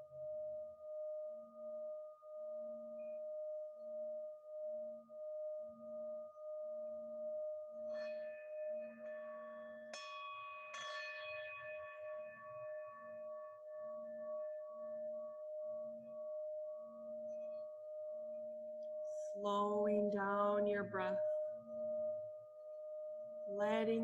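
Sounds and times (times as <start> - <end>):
sustained singing bowl tone: 0.0 - 24.0.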